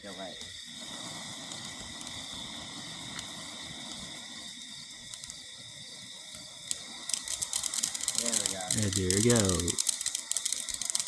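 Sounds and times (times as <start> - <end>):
crickets chirping: 0.0 - 11.0
firework fountain hissing: 0.0 - 11.0.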